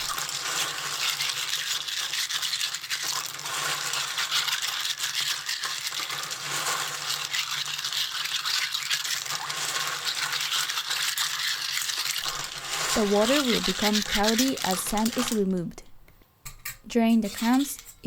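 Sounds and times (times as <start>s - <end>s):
clam shells grating in water: 0.0s - 15.9s.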